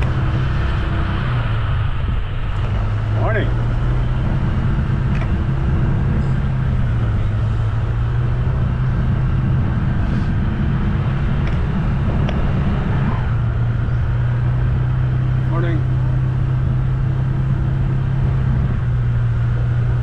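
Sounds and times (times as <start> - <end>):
road rumble: 0.0 - 20.0
vehicle engine drone: 0.0 - 20.0.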